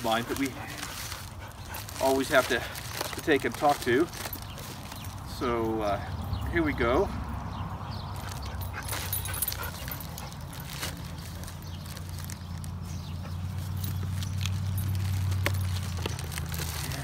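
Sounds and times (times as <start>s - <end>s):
plastic bag crinkling: 0.0s - 5.3s, 8.3s - 17.0s.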